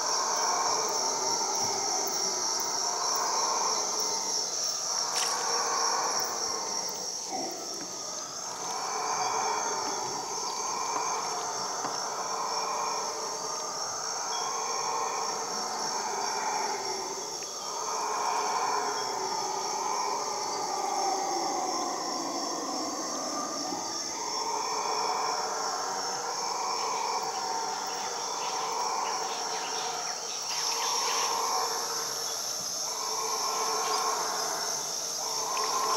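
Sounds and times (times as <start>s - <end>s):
high buzz of insects: 0.0s - 35.9s
howler monkeys howling: 0.0s - 35.9s.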